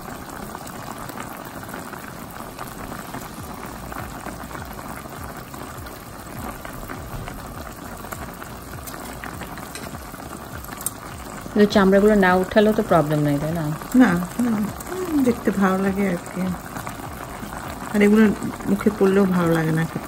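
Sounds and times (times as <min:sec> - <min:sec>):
liquid boiling in a pan: 0:00.0 - 0:20.0.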